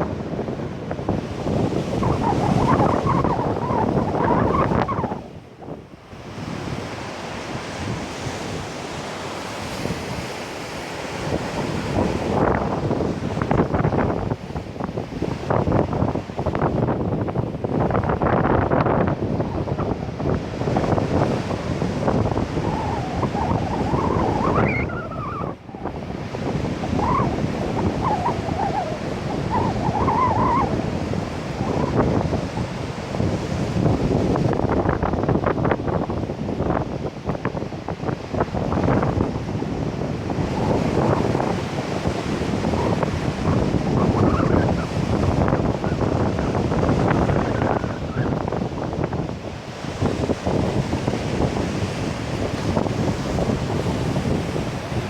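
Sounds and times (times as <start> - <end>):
surf breaking on a beach: 0.0 - 55.0
wind on the microphone: 0.0 - 55.0.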